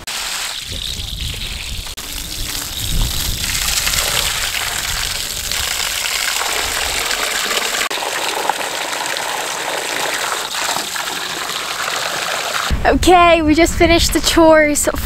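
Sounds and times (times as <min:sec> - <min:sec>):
hose water splashing into metal tank: 0:00.0 - 0:12.7
water pouring into bucket: 0:00.0 - 0:12.7.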